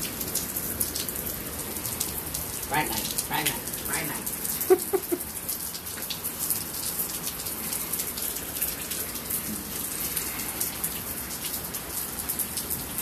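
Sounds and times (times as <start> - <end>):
rain falling on wet pavement: 0.0 - 13.0.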